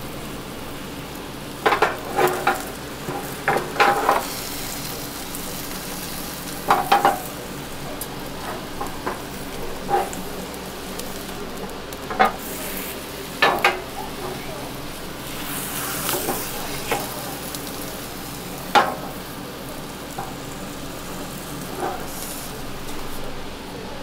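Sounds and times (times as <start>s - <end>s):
omelette sizzling in oil: 0.0s - 23.9s.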